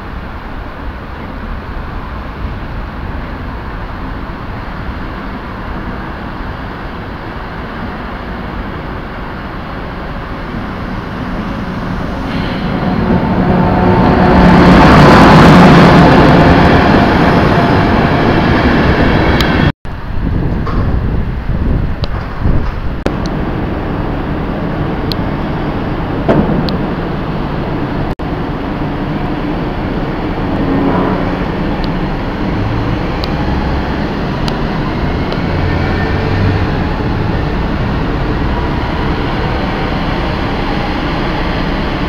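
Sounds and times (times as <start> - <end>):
passing locomotive motor whine: 0.0 - 42.0
train rumble: 0.0 - 42.0.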